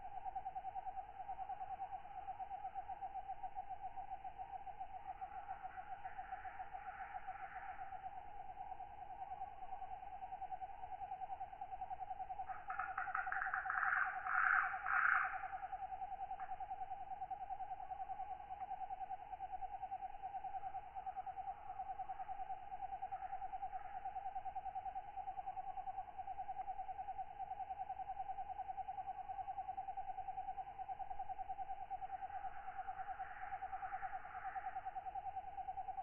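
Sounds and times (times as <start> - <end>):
night insects calling: 0.0 - 36.0.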